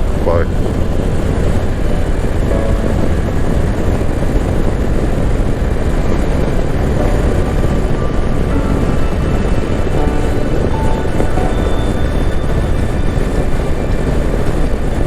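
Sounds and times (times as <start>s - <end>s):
engine running steadily: 0.0s - 15.0s
wind rushing: 0.6s - 15.0s.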